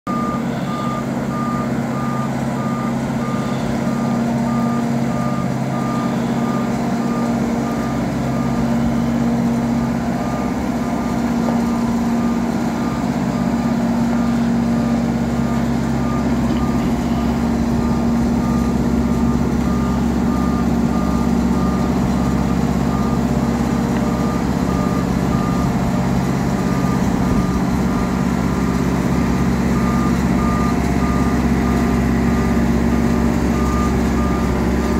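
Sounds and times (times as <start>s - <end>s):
warning alarm beeping: 0.1s - 28.8s
boat lift engine humming: 0.1s - 34.9s.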